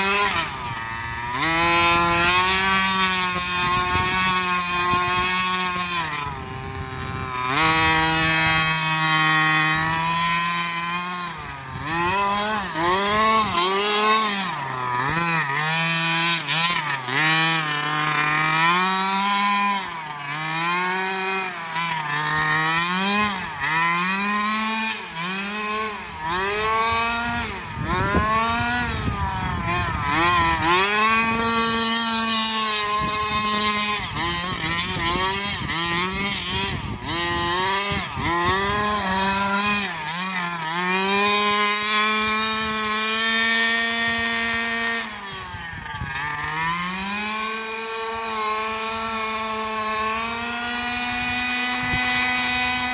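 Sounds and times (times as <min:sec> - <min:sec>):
small two-stroke engine revving: 0:00.0 - 0:52.9.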